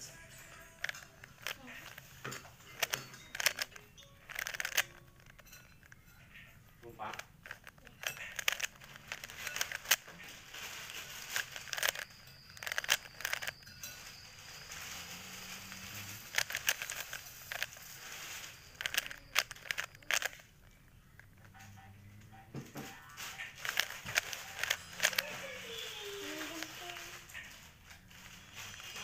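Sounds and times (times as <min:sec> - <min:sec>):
puzzle cube clicking and rattling: 0:00.1 - 0:29.0.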